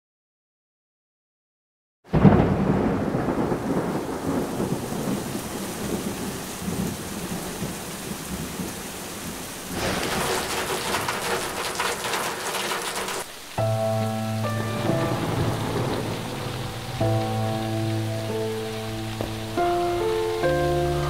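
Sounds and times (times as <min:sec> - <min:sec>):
heavy rain: 0:02.1 - 0:21.0
raindrops pattering on a surface: 0:02.1 - 0:21.0
thunder rumbling: 0:02.1 - 0:21.0.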